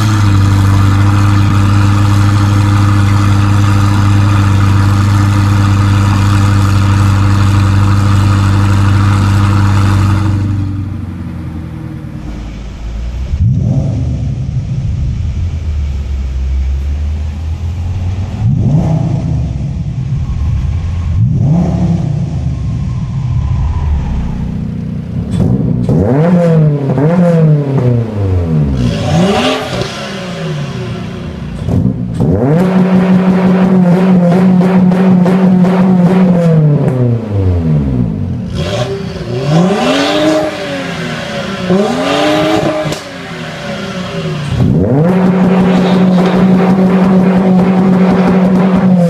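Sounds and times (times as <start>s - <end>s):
car engine at low revs: 0.0s - 49.0s
sports car engine revving: 0.0s - 49.0s.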